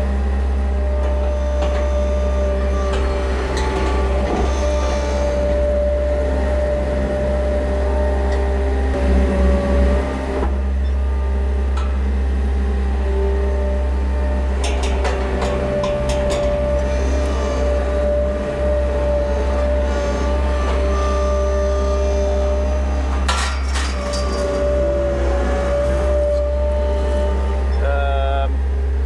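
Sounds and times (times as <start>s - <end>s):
loader engine running: 0.0s - 29.0s.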